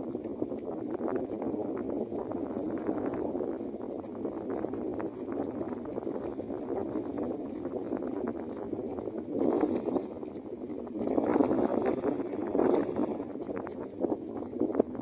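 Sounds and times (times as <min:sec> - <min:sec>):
strong wind blowing: 0:00.0 - 0:15.0.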